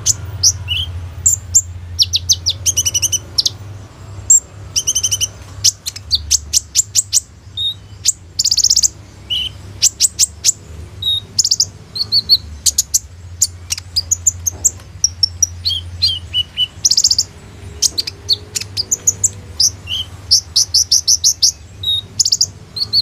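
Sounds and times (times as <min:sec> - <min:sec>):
bird singing chirps and trills: 0:00.0 - 0:23.0.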